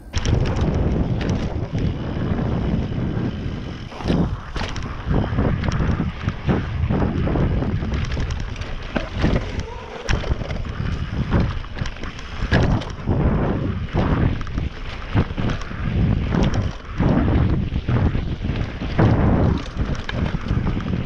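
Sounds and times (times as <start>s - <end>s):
bike knocks and rattles: 0.0s - 21.0s
bike tyres rolling over dirt: 0.0s - 21.0s
wind buffeting microphone: 0.0s - 21.0s.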